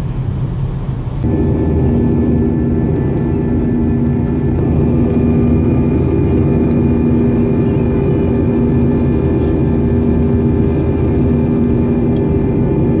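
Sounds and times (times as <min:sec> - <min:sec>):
jet engine and airflow drone: 0:00.0 - 0:13.0
steady humming tones: 0:00.0 - 0:13.0.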